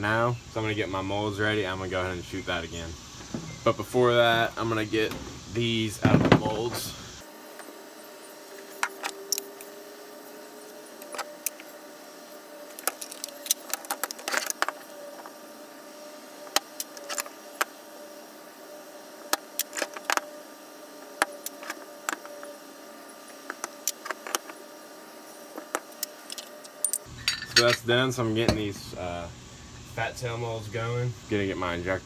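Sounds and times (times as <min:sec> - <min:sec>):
faint hum: 0:00.0 - 0:32.0.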